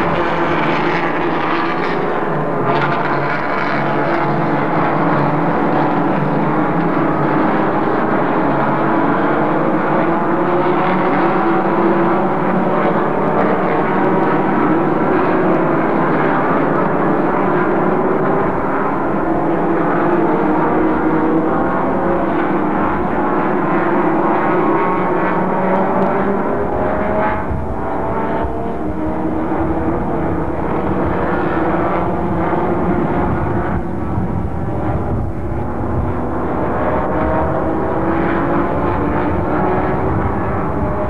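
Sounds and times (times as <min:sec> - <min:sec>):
race car engines droning: 0:00.0 - 0:41.0.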